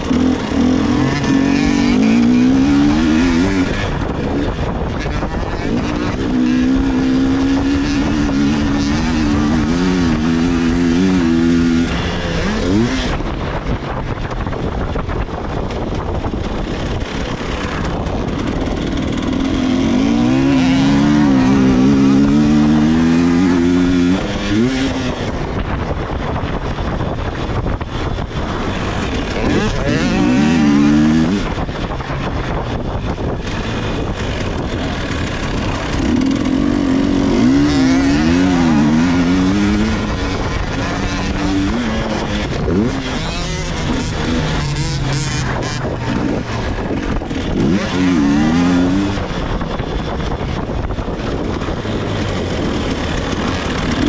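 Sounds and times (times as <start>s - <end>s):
motorbike engine revving: 0.0s - 54.0s
wind rush on microphone: 0.0s - 54.0s.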